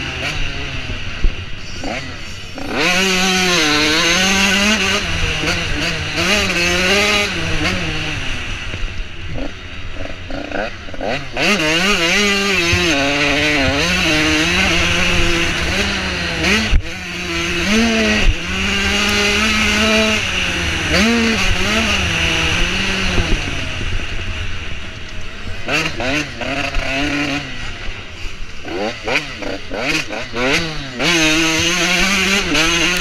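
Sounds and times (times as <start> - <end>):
motocross bike engine revving: 0.0 - 33.0.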